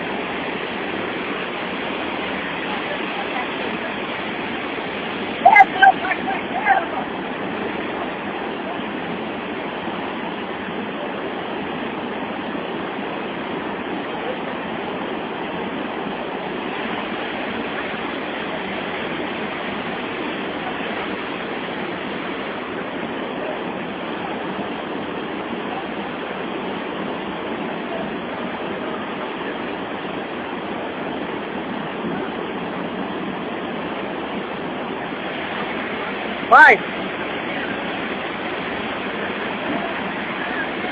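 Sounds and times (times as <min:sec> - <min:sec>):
waterfall and rapids rushing: 0:00.0 - 0:40.9.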